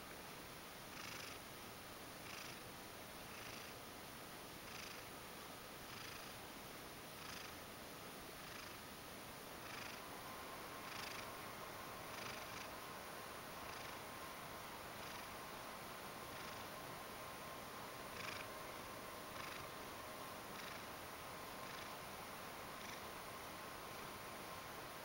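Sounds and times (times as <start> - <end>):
cat purring softly: 0.9 - 1.5, 2.2 - 3.8, 4.6 - 5.2, 5.8 - 6.4, 7.1 - 7.7, 8.3 - 8.9, 9.6 - 25.0.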